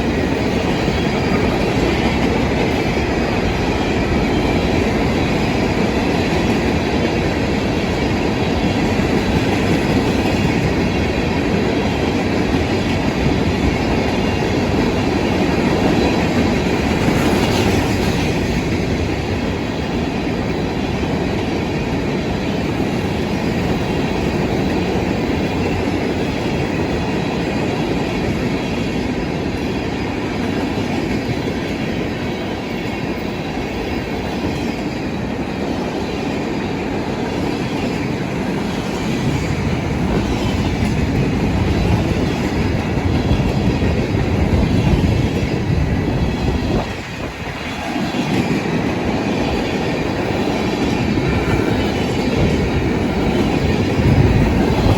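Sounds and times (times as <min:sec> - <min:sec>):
steel wheels rumbling on rails: 0:00.0 - 0:54.9.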